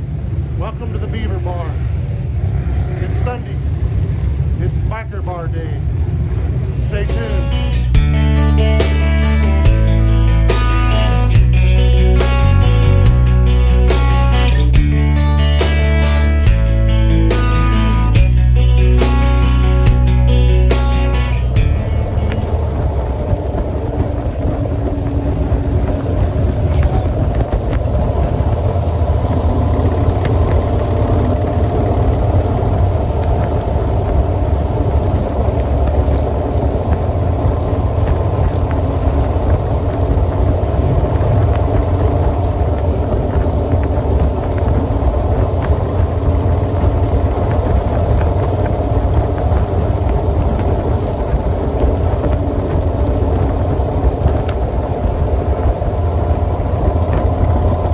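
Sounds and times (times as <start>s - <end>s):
motorcycle engines cruising: 0.0s - 57.9s
wind and road rush: 0.0s - 57.9s.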